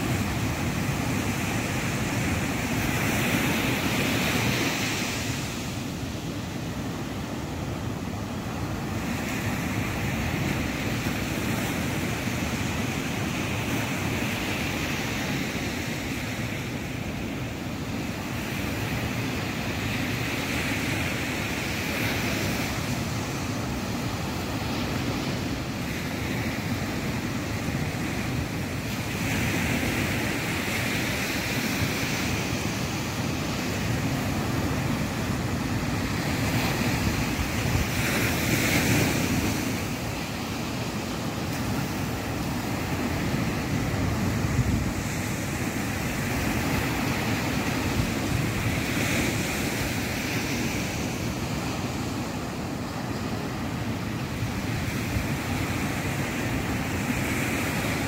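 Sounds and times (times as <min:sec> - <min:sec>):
ocean surf washing on beach: 0:00.0 - 0:58.0.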